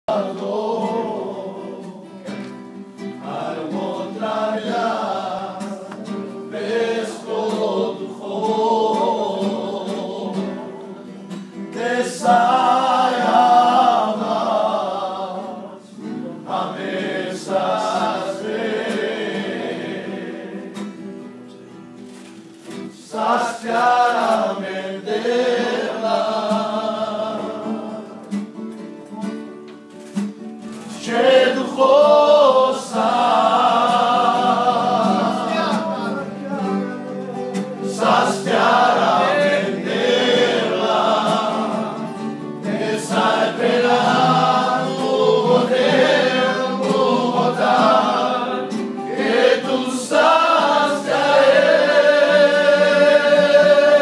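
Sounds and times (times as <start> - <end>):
group singing worship song: 0.0 - 21.6, 22.6 - 28.7, 30.3 - 54.0.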